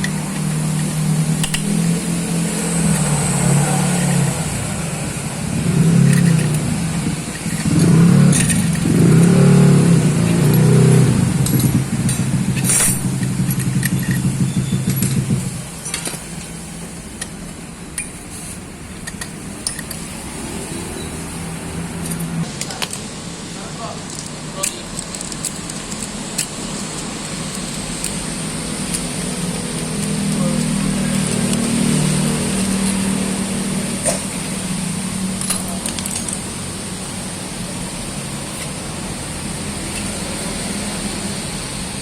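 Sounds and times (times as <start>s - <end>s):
motorcycle engine revving: 0.0s - 18.0s, 18.6s - 23.9s, 25.5s - 42.0s.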